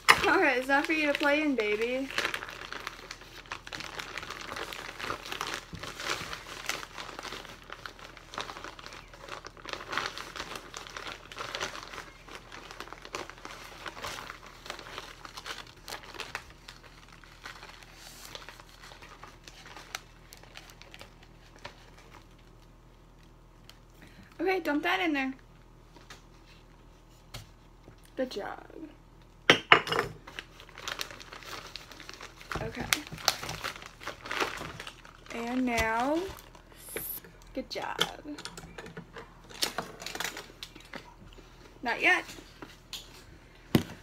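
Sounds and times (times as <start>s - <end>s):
plastic bag crinkling: 0.0s - 23.9s, 30.2s - 44.0s.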